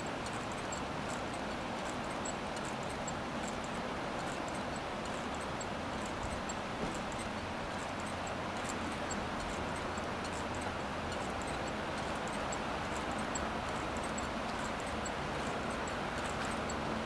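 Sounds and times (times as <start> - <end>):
quick ticking of crank linkage: 0.0 - 17.0.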